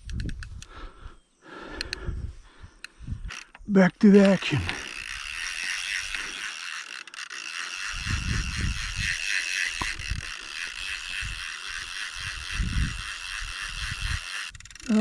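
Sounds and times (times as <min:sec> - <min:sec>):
fishing reel ratchet clicking: 0:00.0 - 0:00.7, 0:02.8 - 0:15.0.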